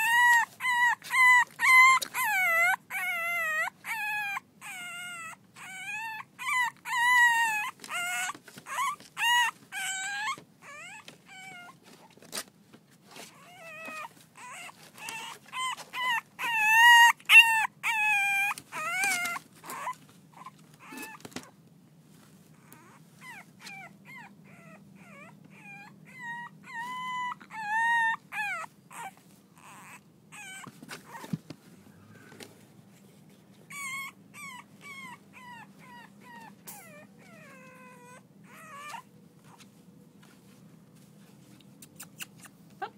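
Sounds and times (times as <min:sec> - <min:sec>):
puppies whining and yipping: 0:00.0 - 0:12.1, 0:13.2 - 0:21.6, 0:22.6 - 0:31.4, 0:33.6 - 0:39.8.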